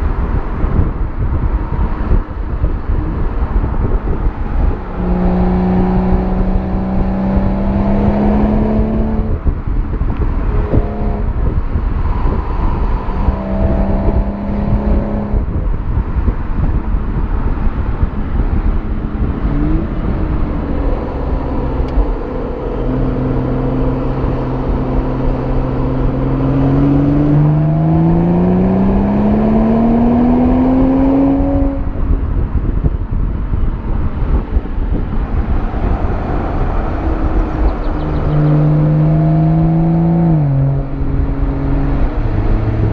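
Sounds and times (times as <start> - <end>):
car exhaust engine note: 0.0 - 42.9
road rumble: 0.0 - 42.9
wind noise: 0.0 - 42.9.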